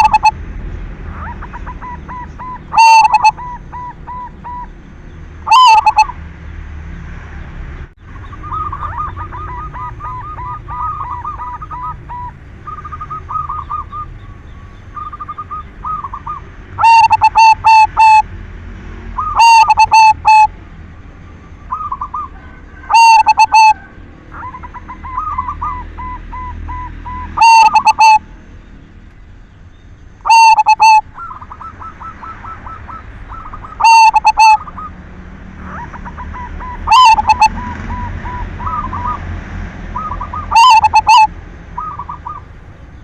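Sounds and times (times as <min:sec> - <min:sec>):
dove cooing: 0:00.0 - 0:06.3, 0:08.2 - 0:18.3, 0:19.2 - 0:20.6, 0:21.6 - 0:28.3, 0:30.2 - 0:42.6.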